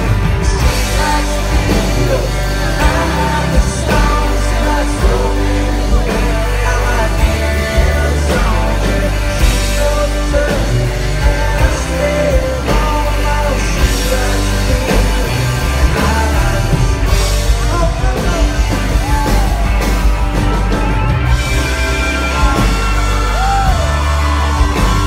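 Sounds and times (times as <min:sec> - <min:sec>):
country-rock band playing: 0:00.0 - 0:25.0.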